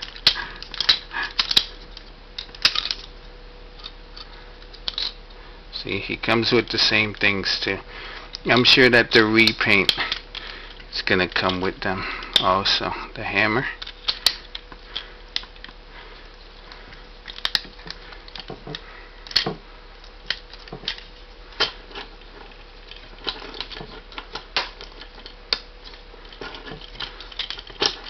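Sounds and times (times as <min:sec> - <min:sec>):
plastic parts clicking: 0:00.0 - 0:03.1, 0:03.8 - 0:05.2, 0:08.3 - 0:12.9, 0:13.7 - 0:15.8, 0:16.6 - 0:28.0.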